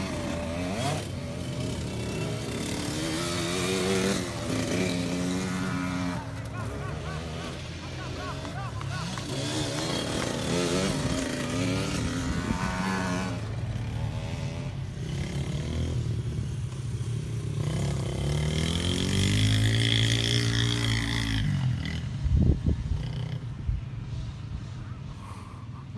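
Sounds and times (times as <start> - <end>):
motocross bikes revving past: 0.0 - 25.2.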